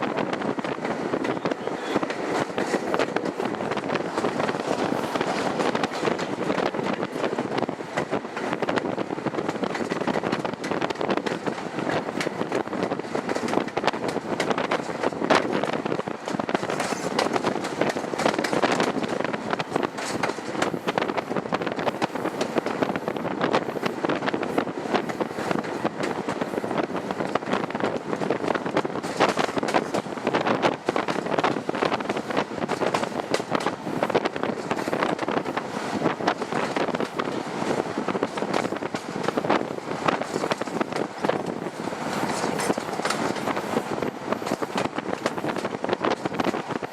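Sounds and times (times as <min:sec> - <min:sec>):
diesel train rushing: 0:00.0 - 0:46.9
wind buffeting microphone: 0:00.0 - 0:46.9.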